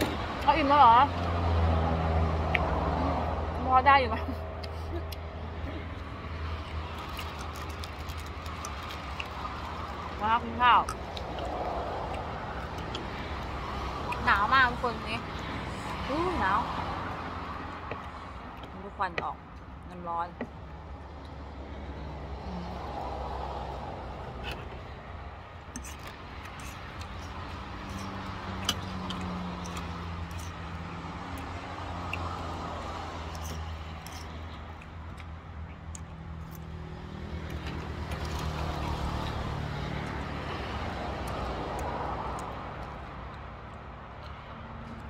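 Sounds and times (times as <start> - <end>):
vehicle engines humming: 0.0 - 45.0.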